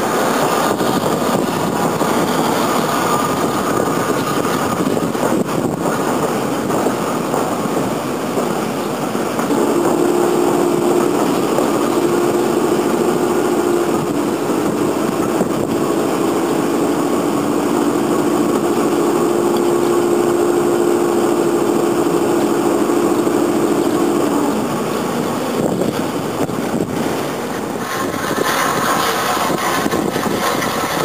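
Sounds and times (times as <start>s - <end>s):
droning tones: 0.0s - 31.0s
train engine rumbling: 0.0s - 31.0s.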